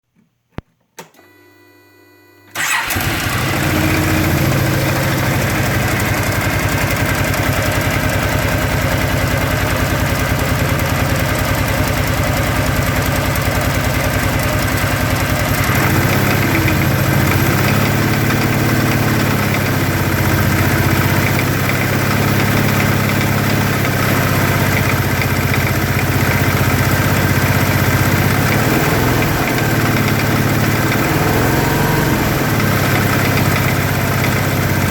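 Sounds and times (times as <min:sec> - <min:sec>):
engine starting and idling: 0:02.5 - 0:34.9
engine knocking: 0:02.6 - 0:34.9.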